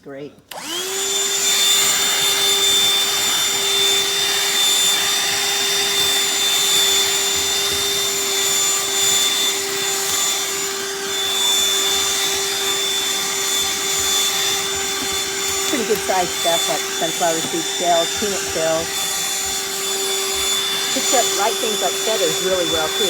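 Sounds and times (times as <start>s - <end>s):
handheld vacuum running: 0.5s - 23.0s.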